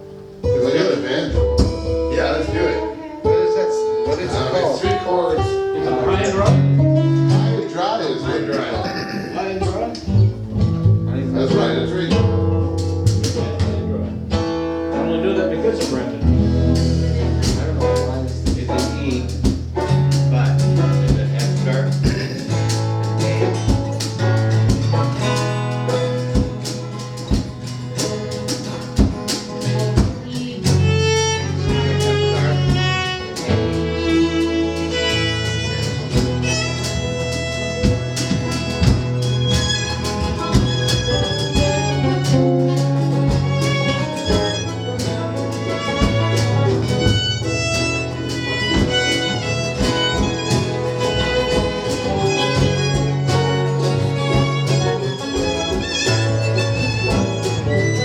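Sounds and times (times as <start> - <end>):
fiddle lead melody: 0.0 - 58.0
live band playing instrumental: 0.0 - 58.0.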